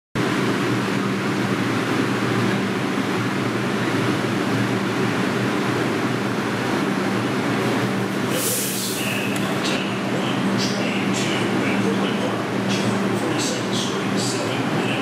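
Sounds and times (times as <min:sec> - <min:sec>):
subway train equipment humming: 0:00.2 - 0:15.0.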